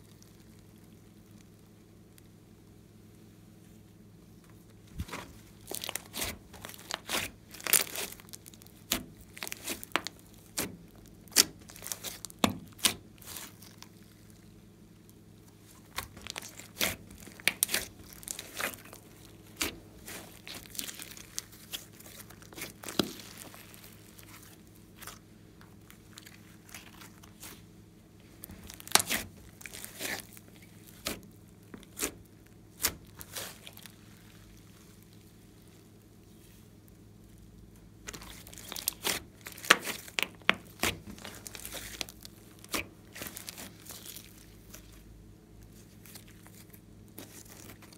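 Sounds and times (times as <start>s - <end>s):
slime popping and crackling: 5.0s - 27.7s, 28.3s - 35.6s, 38.0s - 47.9s.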